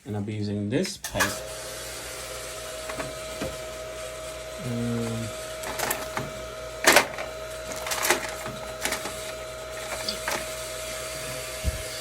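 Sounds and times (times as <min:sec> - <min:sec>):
steady hum: 0:01.0 - 0:12.0.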